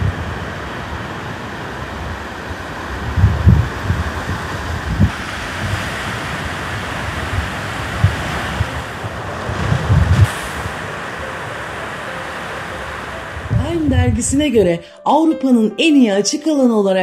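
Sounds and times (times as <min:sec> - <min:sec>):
wind buffeting microphone: 0:00.0 - 0:14.8
sea surf: 0:00.0 - 0:15.6.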